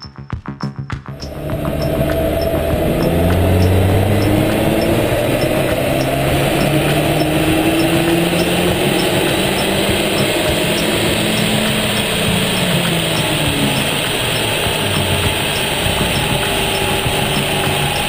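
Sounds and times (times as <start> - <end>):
car engine running under load: 1.1 - 18.0
dynamometer rollers whirring: 1.2 - 18.0.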